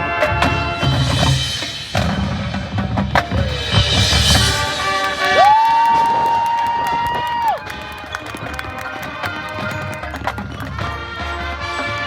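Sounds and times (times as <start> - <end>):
marching band brass: 0.0 - 12.0
drum and wood-block hits: 0.3 - 11.1.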